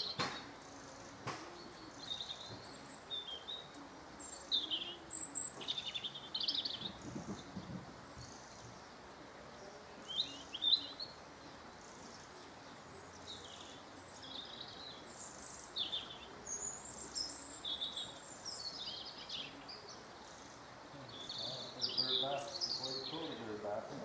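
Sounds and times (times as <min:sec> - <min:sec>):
faint steady hiss: 0:00.0 - 0:24.0
songbirds chirping and singing: 0:00.0 - 0:24.0.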